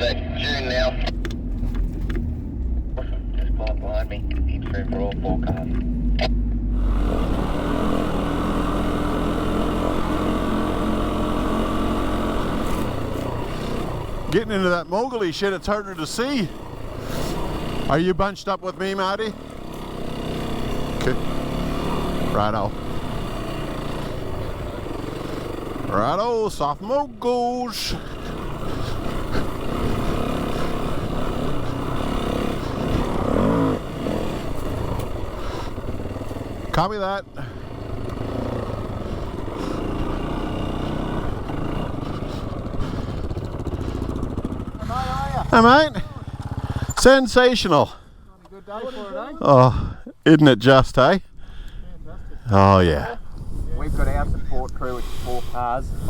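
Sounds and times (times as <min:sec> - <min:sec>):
vehicle engine running: 0:00.0 - 0:48.3
low drivetrain rumble: 0:00.0 - 0:48.7.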